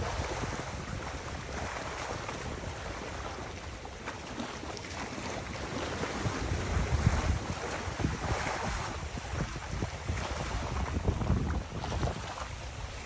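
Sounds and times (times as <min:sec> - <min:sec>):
rushing water: 0:00.0 - 0:13.0
wind buffeting microphone: 0:00.0 - 0:13.0.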